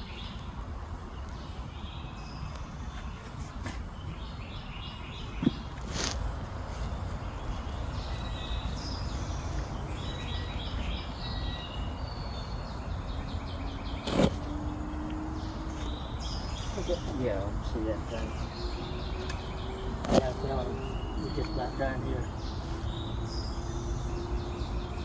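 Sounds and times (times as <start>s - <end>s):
small birds trilling: 0.0s - 25.0s.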